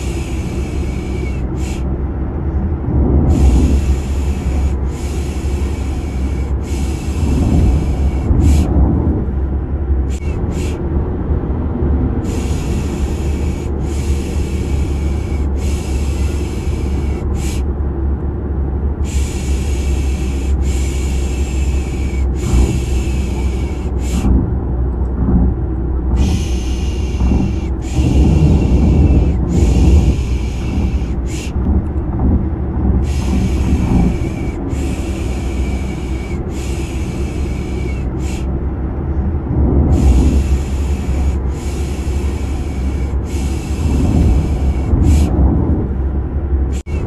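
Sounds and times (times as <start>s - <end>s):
car interior drone: 0.0s - 47.0s.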